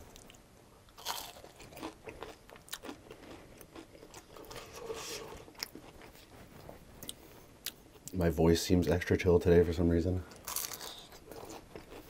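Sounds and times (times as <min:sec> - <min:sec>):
crunchy chewing: 0:00.1 - 0:08.2, 0:10.3 - 0:12.0.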